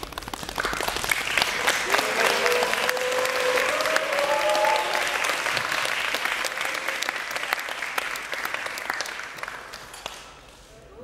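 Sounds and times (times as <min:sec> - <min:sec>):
audience applause: 0:00.0 - 0:10.3.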